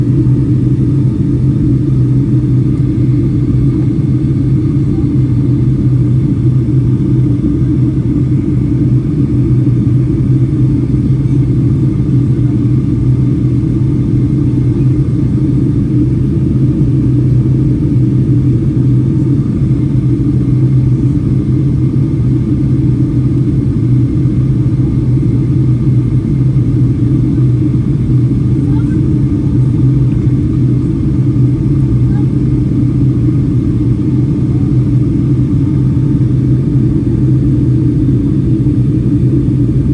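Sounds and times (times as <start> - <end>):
airliner engines rumbling: 0.0 - 39.9.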